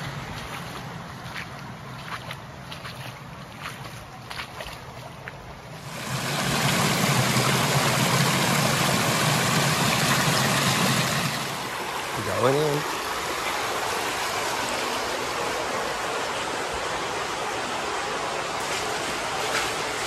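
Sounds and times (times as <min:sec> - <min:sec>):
stream water splashing over stone: 0:00.0 - 0:20.0.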